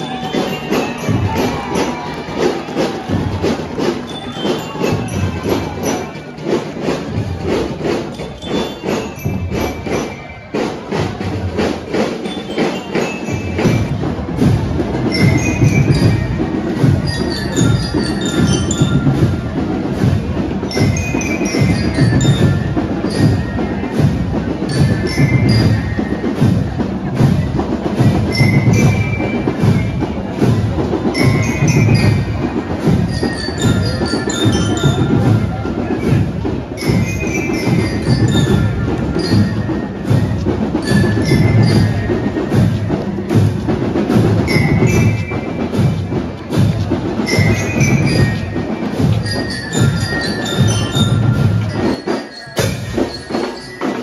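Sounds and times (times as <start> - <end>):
marching drums beating: 0.0 - 54.0.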